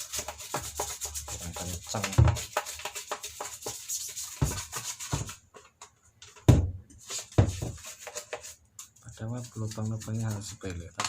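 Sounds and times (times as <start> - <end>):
brush scrubbing plastic: 0.0 - 5.5, 7.0 - 11.0.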